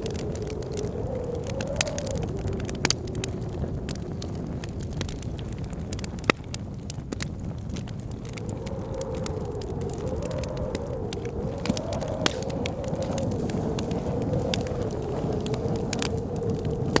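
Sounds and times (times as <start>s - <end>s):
blizzard wind howling: 0.0s - 17.0s
wood fire crackling and popping: 0.0s - 17.0s.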